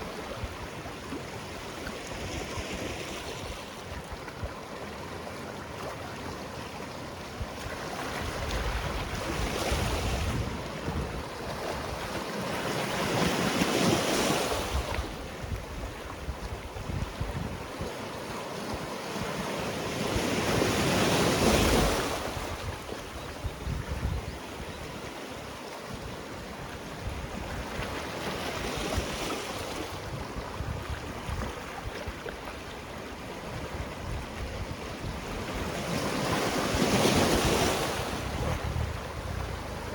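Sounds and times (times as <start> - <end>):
sea waves breaking: 0.0 - 23.2, 25.8 - 39.9.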